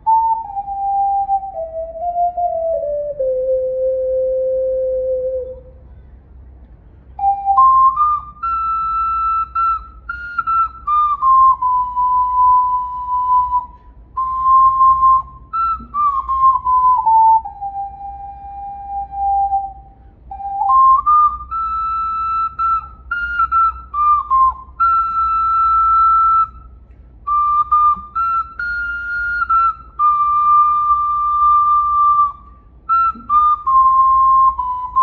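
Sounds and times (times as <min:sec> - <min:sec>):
ocarina playing a slow melody: 0:00.0 - 0:35.0.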